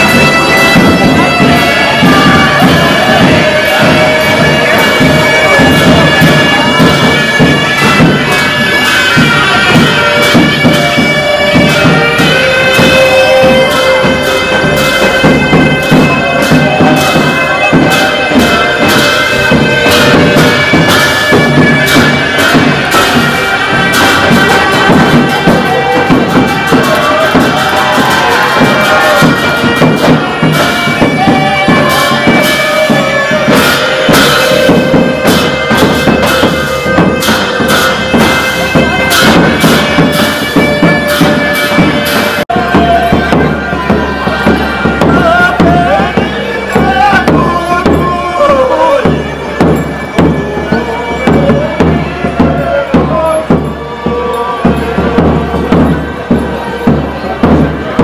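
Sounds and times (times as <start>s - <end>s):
reedy wind instrument melody: 0.0s - 58.0s
steady drum beats: 0.0s - 58.0s.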